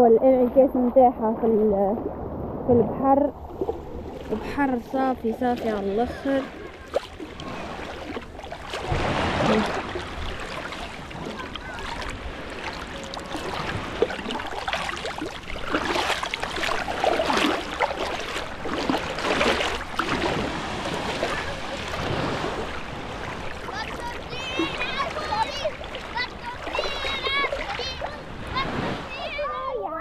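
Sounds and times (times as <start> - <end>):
sea water lapping at shore: 0.0 - 30.0.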